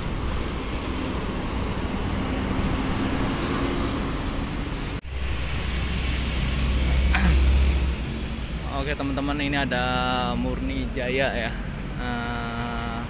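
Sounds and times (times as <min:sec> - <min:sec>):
trucks rumbling past: 0:00.0 - 0:13.0.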